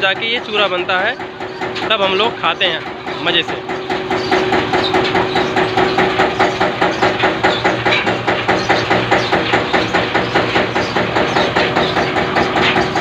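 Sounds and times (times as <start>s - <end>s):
mill wheel beating: 0.0s - 13.0s
steady machine hum: 0.0s - 13.0s.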